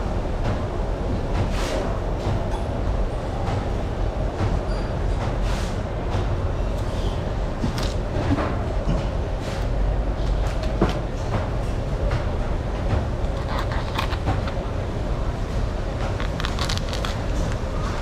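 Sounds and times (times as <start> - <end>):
indoor market rumble: 0.0 - 18.0.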